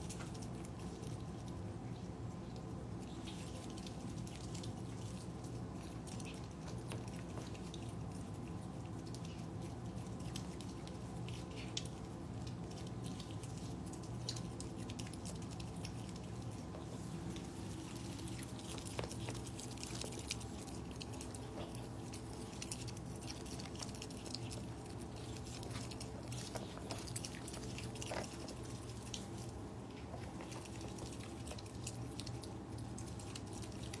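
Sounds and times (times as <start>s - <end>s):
animals crunching dry food: 0.0s - 34.0s.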